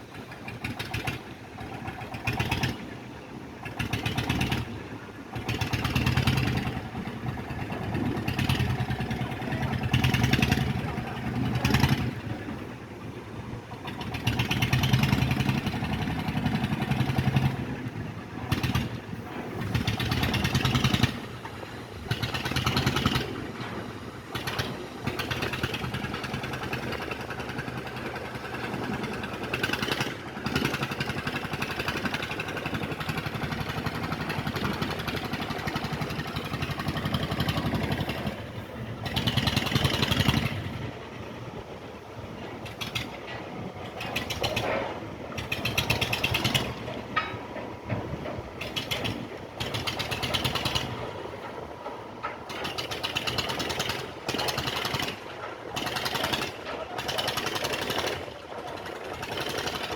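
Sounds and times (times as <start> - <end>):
engine running with fast pulse: 0.0 - 59.9.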